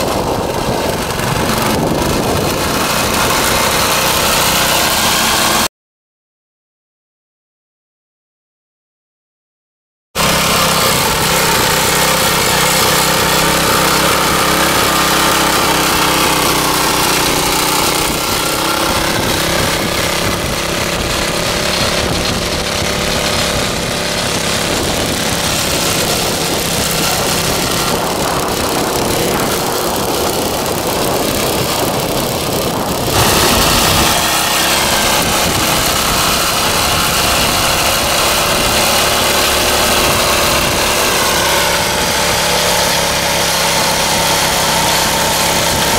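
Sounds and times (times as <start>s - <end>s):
tiller engine running: 0.0s - 5.7s, 10.2s - 45.9s
tines churning dry soil: 0.0s - 5.7s, 10.2s - 45.9s.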